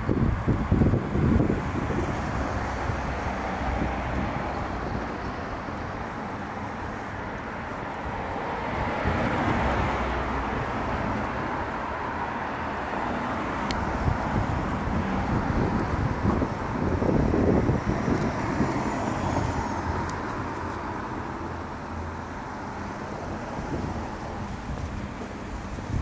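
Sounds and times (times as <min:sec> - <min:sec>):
cars passing on wet road: 0:00.0 - 0:26.0.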